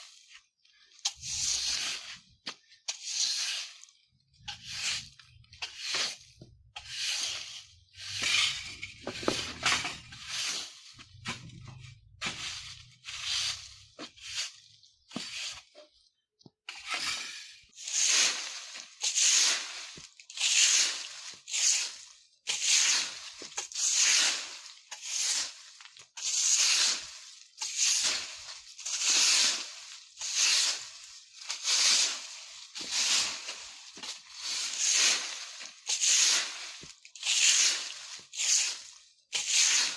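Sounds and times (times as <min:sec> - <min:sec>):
broom sweeping leaves: 0:00.0 - 0:15.7, 0:16.8 - 0:39.9.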